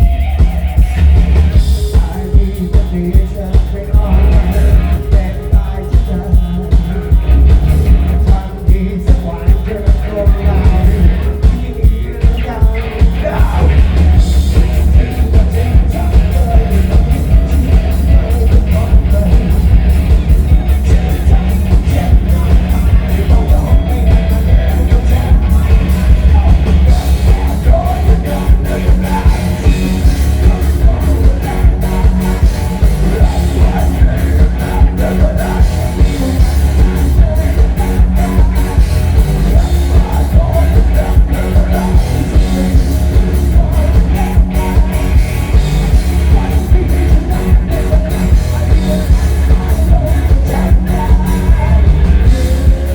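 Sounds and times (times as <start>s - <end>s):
live rock band playing: 0.0s - 52.9s
person singing: 0.0s - 52.9s.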